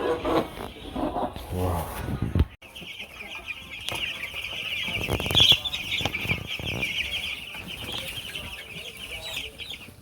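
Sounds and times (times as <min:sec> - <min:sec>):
chickens clucking and cheeping: 0:00.0 - 0:10.0.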